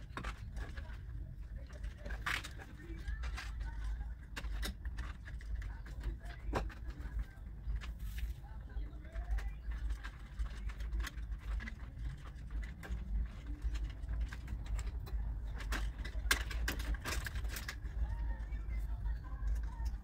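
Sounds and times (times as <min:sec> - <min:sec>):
low steady hum: 0:00.0 - 0:20.0
wires clicking and scraping: 0:00.0 - 0:20.0.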